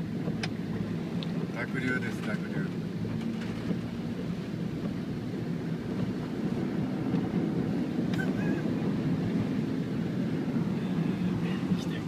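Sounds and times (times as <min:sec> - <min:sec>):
car engine rumble: 0:00.0 - 0:12.0
water churning around tyres: 0:00.0 - 0:12.0.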